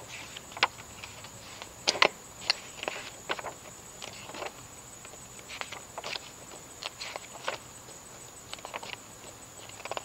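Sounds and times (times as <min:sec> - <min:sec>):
brochure pages flipping: 0:00.0 - 0:10.0.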